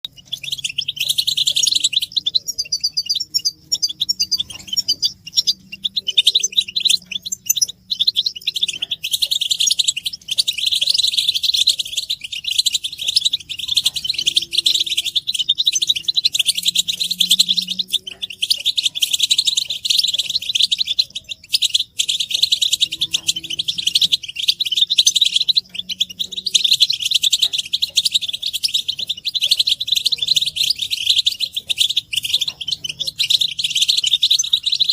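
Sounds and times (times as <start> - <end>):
finches chattering and twittering: 0.0 - 34.9.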